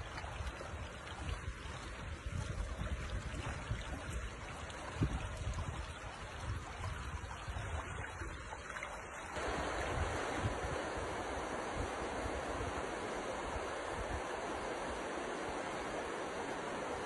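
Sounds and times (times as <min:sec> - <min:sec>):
wind on microphone: 0:00.0 - 0:15.1
river water rushing: 0:00.0 - 0:17.0
water running over rapids: 0:00.0 - 0:17.0.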